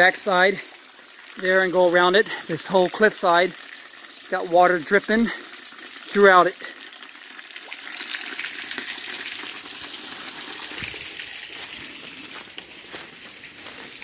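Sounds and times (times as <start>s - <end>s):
water dripping: 0.0s - 14.0s.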